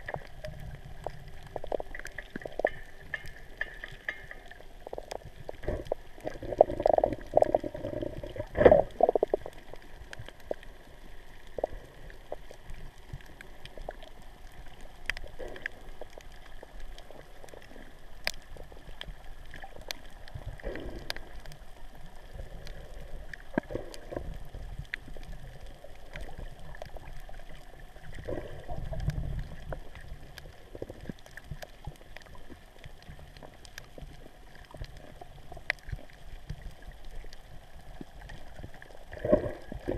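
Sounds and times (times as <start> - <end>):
faint clicks: 0.0 - 39.9
water gurgling underwater: 0.0 - 39.9.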